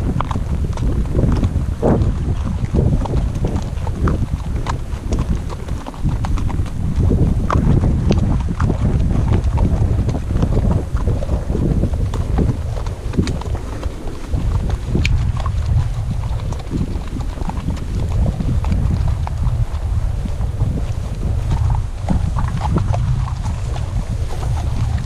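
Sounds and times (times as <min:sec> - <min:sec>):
hooves clip-clopping on dirt: 0:00.0 - 0:25.0
wind rumble on microphone: 0:00.0 - 0:25.0.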